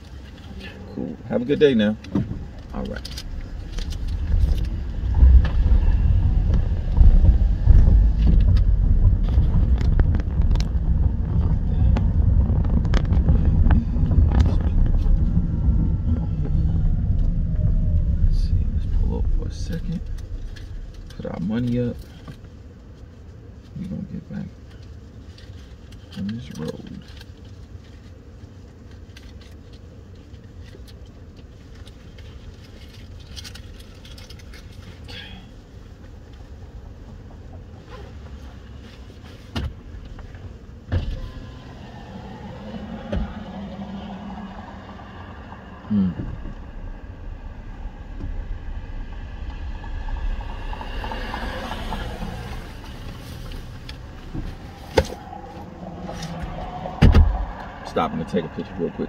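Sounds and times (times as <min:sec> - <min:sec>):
tyre and road noise: 0:00.0 - 0:59.0.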